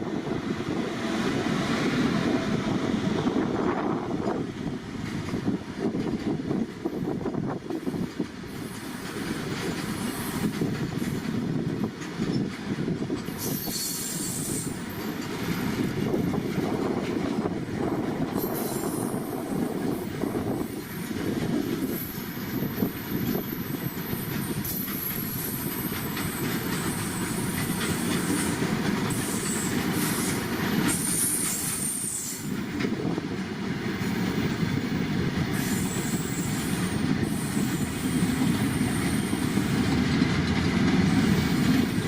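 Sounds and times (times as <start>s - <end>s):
train wheels clattering over rails: 0.0s - 42.0s.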